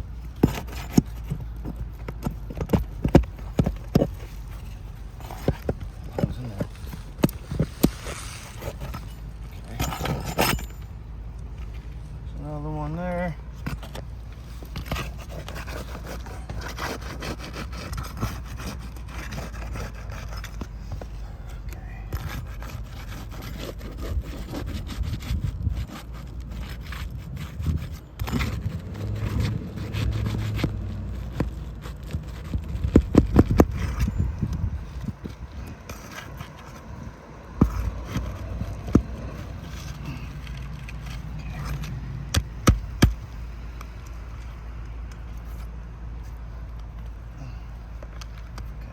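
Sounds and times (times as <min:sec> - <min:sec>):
metal tool scraping roof shingles: 0:00.0 - 0:11.0, 0:13.6 - 0:43.3.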